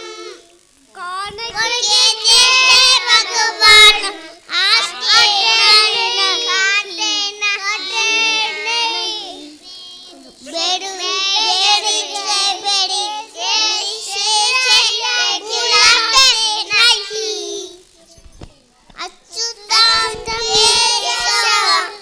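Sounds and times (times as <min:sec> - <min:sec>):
children singing: 0:00.0 - 0:00.6, 0:01.2 - 0:17.9, 0:19.0 - 0:22.0.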